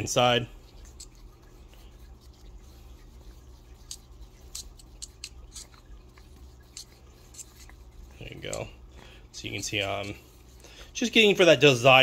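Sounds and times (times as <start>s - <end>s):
skewer stirring in plastic cup: 0.0s - 11.5s
steady low hum: 0.0s - 12.0s.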